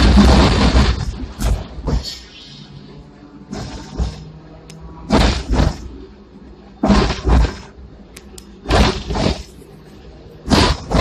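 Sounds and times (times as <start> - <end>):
tram wheels clacking over rail joints: 0.0 - 2.8, 3.4 - 11.0
low hum of running tram: 0.0 - 11.0.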